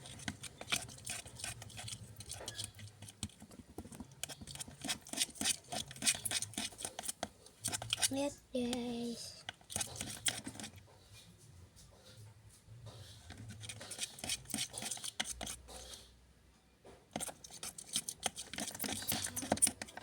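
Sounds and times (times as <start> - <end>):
scratchy scraping and clicking: 0.0 - 8.8, 9.4 - 11.3, 12.9 - 16.1, 17.1 - 20.0
slime being stirred in container: 0.0 - 10.9, 12.9 - 16.1, 17.1 - 20.0.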